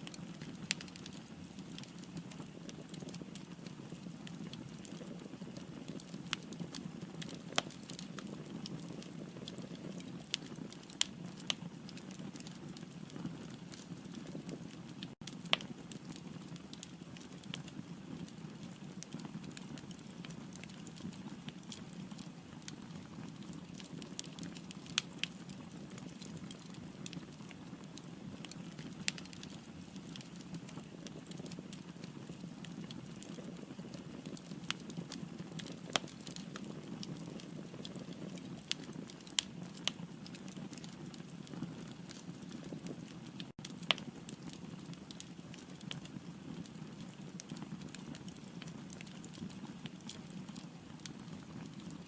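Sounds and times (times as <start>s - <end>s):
fire low rumble: 0.0s - 52.0s
firewood crackling and popping: 0.0s - 52.0s.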